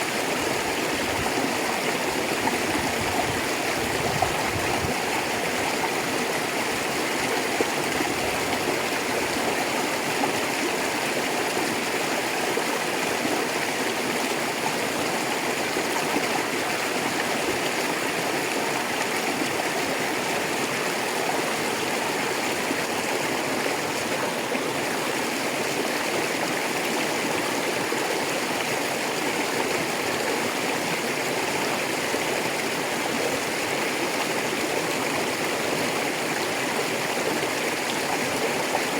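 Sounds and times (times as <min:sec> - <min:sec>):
water rushing over stones: 0:00.0 - 0:38.9.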